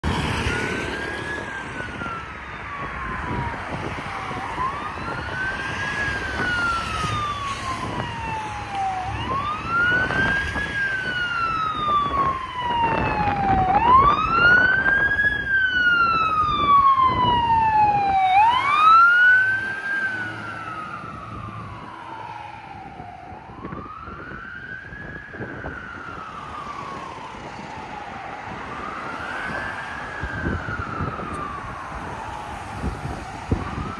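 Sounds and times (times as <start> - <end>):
fire engine siren wailing: 0.0 - 33.9
road traffic: 0.0 - 33.9.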